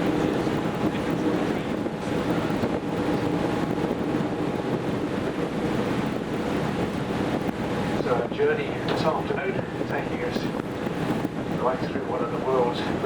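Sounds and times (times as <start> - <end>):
boat engine drone: 0.0 - 13.0
water noise: 0.0 - 13.0
wind: 0.0 - 13.0
wind buffeting microphone: 0.0 - 13.0.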